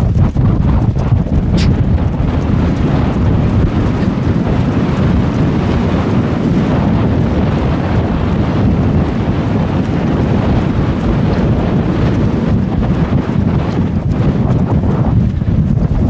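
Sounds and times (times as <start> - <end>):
heavy wind buffeting microphone: 0.0 - 16.0.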